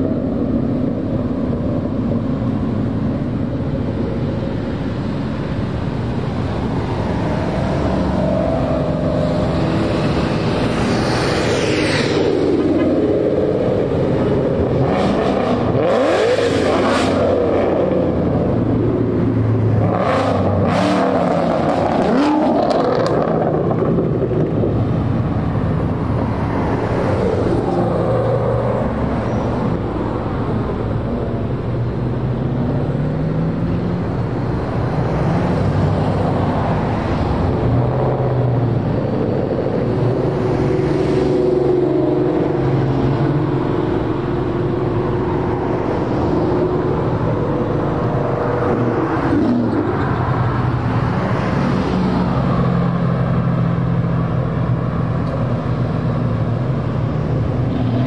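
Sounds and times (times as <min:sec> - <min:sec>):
cars driving past: 0:00.0 - 0:58.0.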